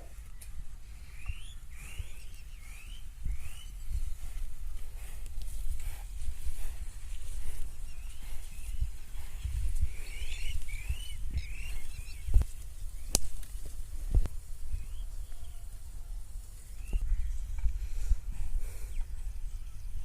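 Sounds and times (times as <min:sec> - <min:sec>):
small birds chirping: 0:00.0 - 0:15.8, 0:16.4 - 0:20.0.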